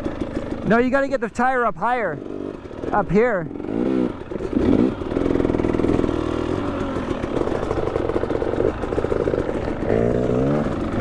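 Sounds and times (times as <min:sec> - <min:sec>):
dirt bike engine revving: 0:02.1 - 0:11.0.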